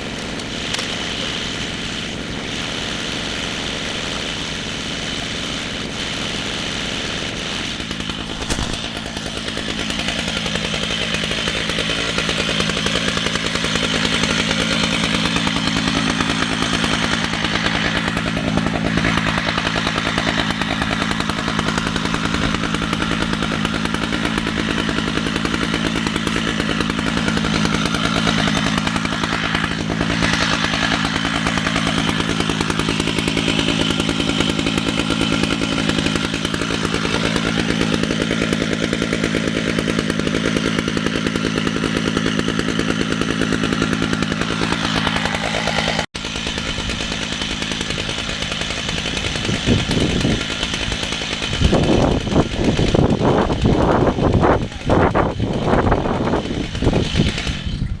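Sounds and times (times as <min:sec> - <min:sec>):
chainsaw cutting log at high throttle: 0:00.0 - 0:58.0.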